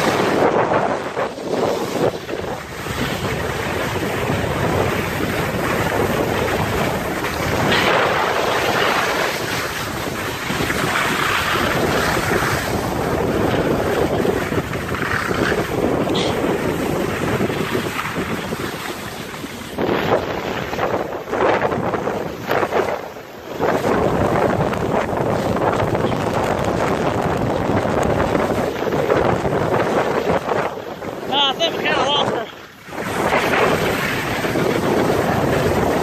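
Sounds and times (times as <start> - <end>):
skis sliding over slushy snow: 0.0 - 36.0
wind rushing over microphone: 0.0 - 36.0.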